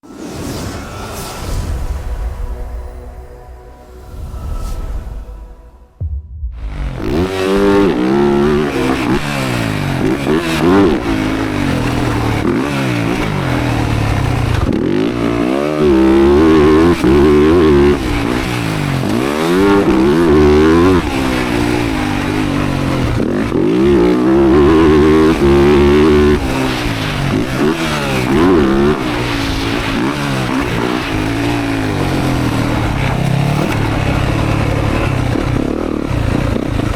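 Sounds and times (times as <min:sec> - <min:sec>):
dirt bike engine revving: 0:06.6 - 0:36.9.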